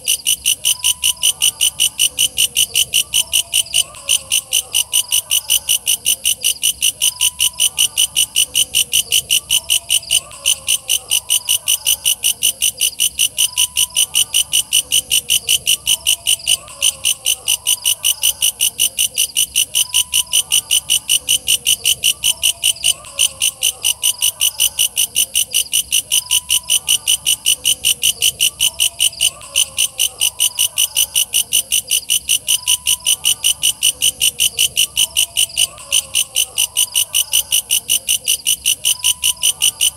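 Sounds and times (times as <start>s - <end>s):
fainter wavering insect calls: 0.0s - 39.9s.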